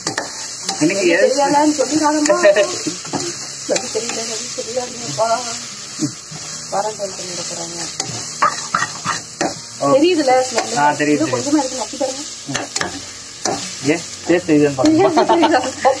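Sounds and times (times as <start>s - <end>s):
onions sizzling in a pot: 0.0s - 16.0s.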